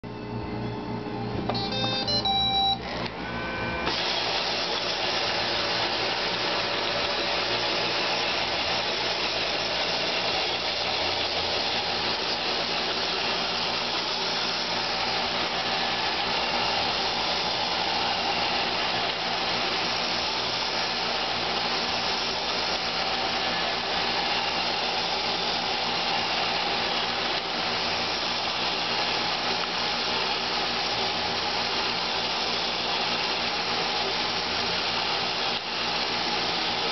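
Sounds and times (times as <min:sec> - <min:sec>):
robot vacuum whirring: 0:01.5 - 0:36.9.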